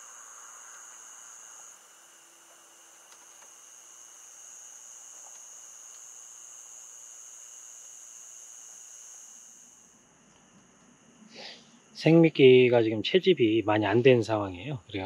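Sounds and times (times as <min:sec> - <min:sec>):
fainter lower insect trill: 0:00.0 - 0:15.0
insects trilling: 0:00.0 - 0:15.0.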